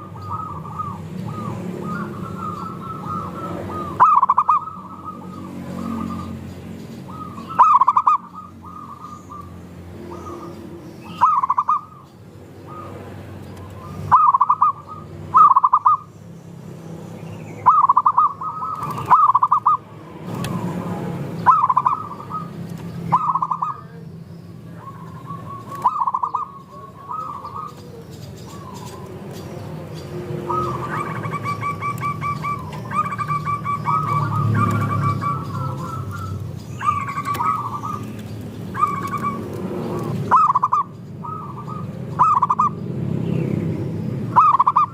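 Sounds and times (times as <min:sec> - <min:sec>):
doves cooing: 0:00.0 - 0:16.1, 0:17.6 - 0:42.9, 0:44.2 - 0:44.9.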